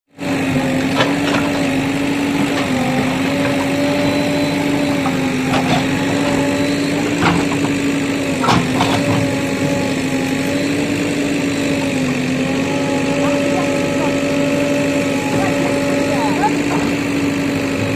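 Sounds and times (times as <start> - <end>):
diesel engine running: 0.1 - 17.9.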